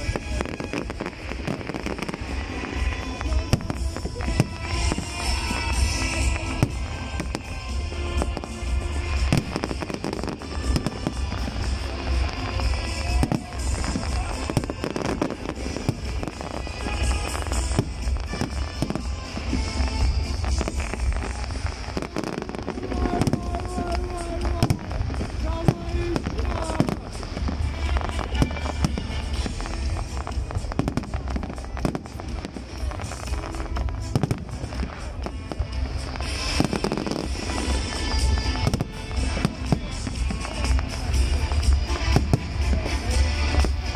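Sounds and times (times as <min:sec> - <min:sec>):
fireworks bursting: 0:00.0 - 0:43.9
music playing: 0:00.0 - 0:43.9.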